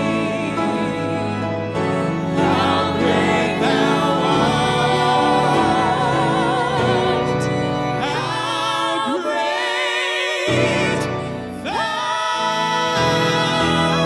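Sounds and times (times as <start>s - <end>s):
church choir singing a hymn: 0.0s - 14.0s
instrumental accompaniment: 0.0s - 14.0s.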